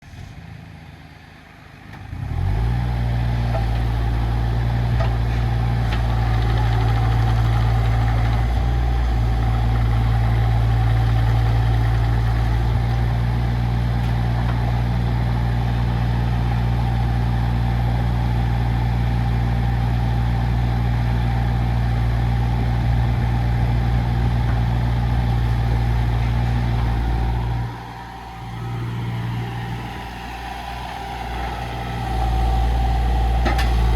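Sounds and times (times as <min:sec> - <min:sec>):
diesel engine revving: 0:02.0 - 0:33.9.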